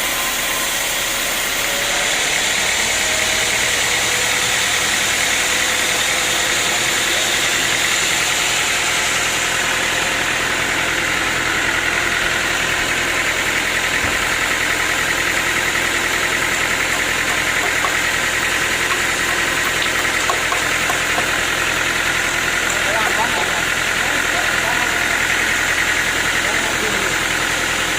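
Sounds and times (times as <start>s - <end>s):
sawmill machinery drone: 0.0s - 27.9s.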